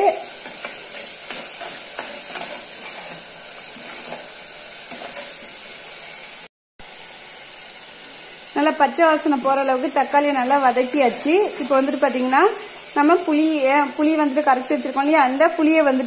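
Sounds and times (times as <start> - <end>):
paste sizzling in oil: 0.0 - 16.0.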